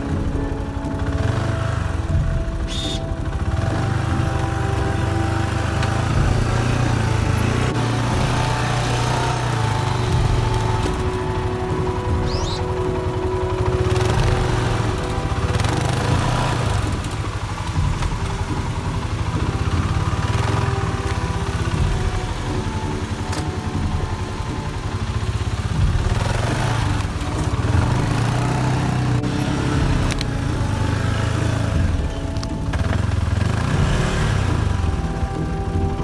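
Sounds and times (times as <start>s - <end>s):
atv engine revving under load: 0.0s - 36.0s.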